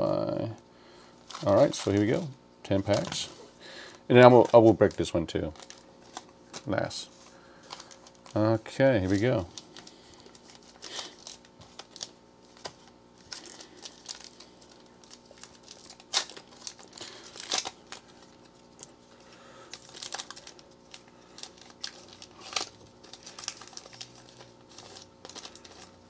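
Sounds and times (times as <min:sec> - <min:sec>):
foil wrapper crinkling and tearing: 0:01.2 - 0:26.0.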